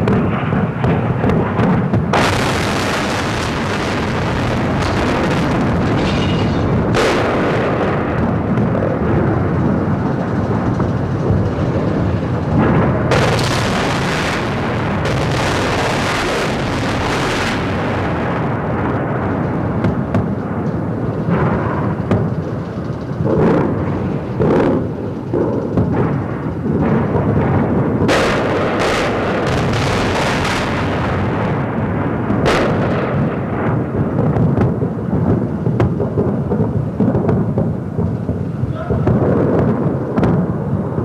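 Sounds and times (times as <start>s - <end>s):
bombs exploding: 0.0s - 41.0s
continuous rumble: 0.0s - 41.0s.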